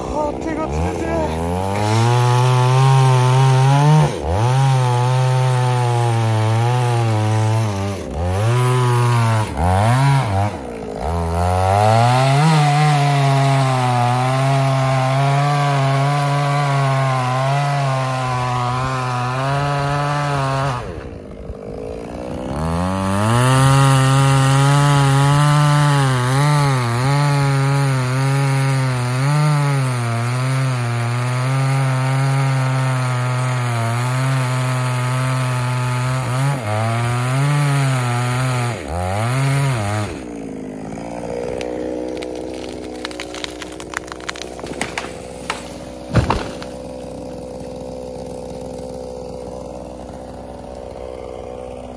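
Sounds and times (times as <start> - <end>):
chainsaw cutting tree trunk: 0.0 - 51.9.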